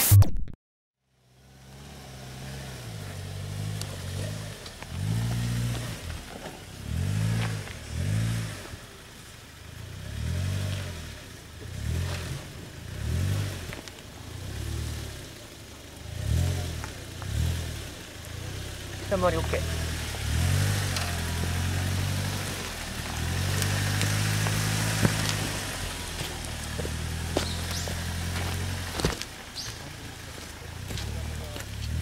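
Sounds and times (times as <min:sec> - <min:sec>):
car engine revving: 0:01.2 - 0:32.0.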